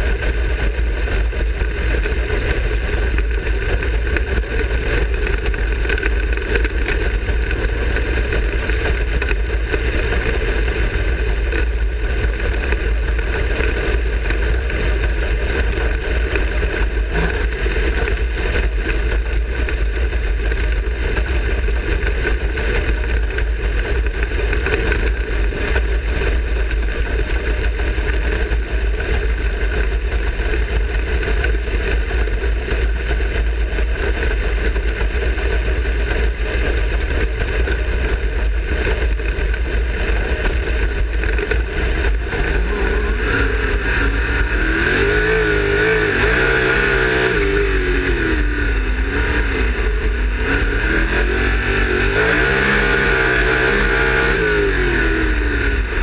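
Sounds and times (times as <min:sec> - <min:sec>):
racing car engine running hard: 0:00.0 - 0:56.0.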